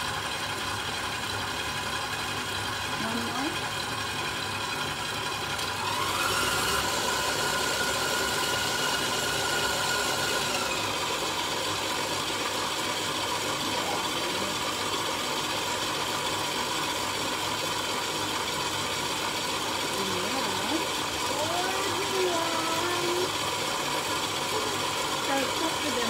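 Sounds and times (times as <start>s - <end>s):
beater churning thick mix: 0.0s - 26.0s
stand mixer motor whining: 0.0s - 26.0s.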